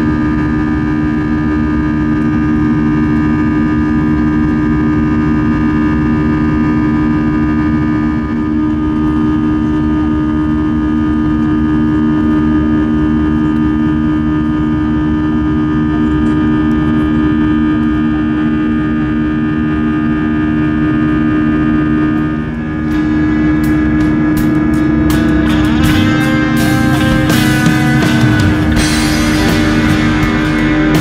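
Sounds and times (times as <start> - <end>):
jet engine drone in cabin: 0.0 - 31.0.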